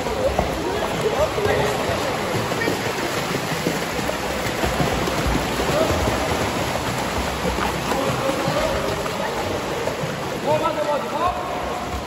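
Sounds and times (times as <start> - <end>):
children splashing in pool water: 0.0 - 12.0.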